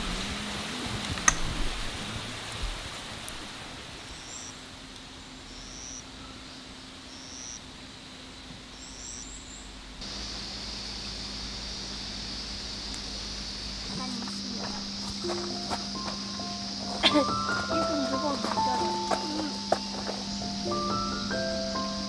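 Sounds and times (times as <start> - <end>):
campfire crackling: 0.0 - 22.0
high insect trill: 0.0 - 22.0
night insects chirping: 0.0 - 22.0.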